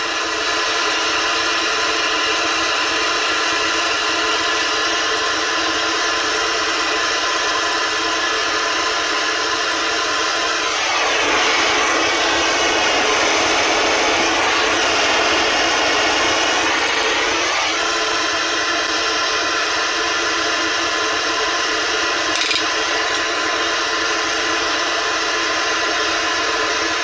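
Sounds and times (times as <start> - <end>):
gas torch flame rushing: 3.3 - 27.0.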